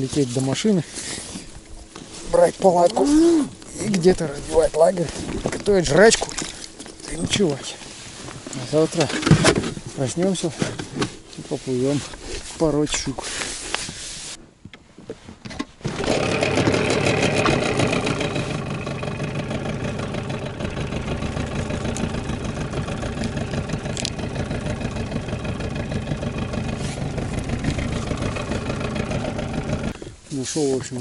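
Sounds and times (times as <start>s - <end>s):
outboard motor running: 0.0s - 13.5s, 15.8s - 31.0s.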